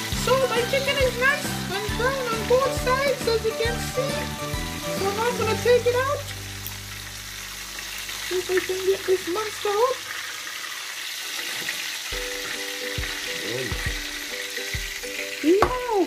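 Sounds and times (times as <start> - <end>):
wavering melodic tune: 0.0 - 9.2, 12.2 - 16.0
meat sizzling in a pan: 0.0 - 16.0.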